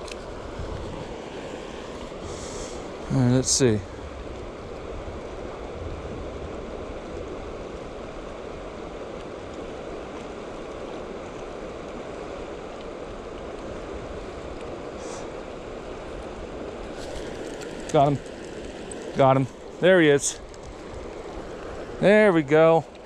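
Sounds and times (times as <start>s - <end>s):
rushing outdoor ambience: 0.0s - 23.0s.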